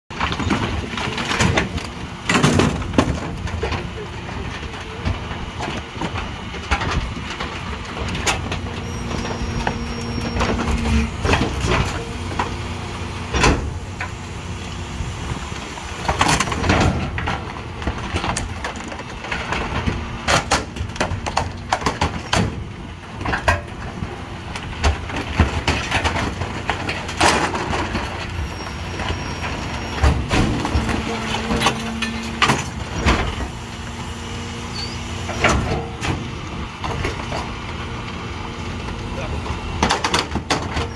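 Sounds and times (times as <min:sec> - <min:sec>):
garbage truck engine hum: 0:00.1 - 0:40.9
hydraulic packer blade: 0:04.8 - 0:38.2.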